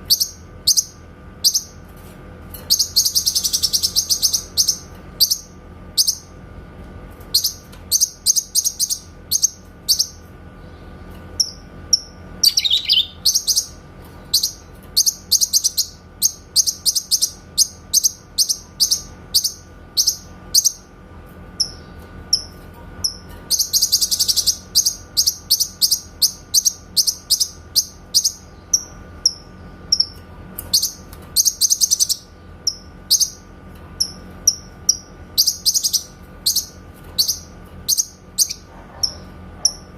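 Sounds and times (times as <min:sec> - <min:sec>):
bird singing high chip notes: 0:00.0 - 0:01.8, 0:02.6 - 0:06.4, 0:07.3 - 0:10.3, 0:11.4 - 0:21.0, 0:21.6 - 0:39.9.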